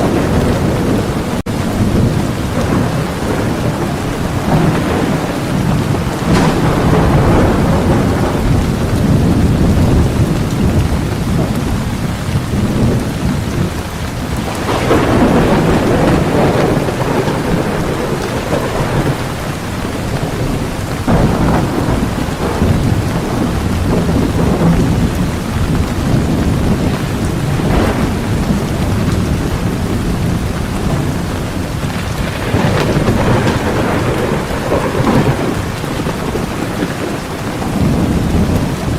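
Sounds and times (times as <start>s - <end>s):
heavy rain pouring: 0.0s - 38.9s
thunder rumbling: 0.0s - 38.9s.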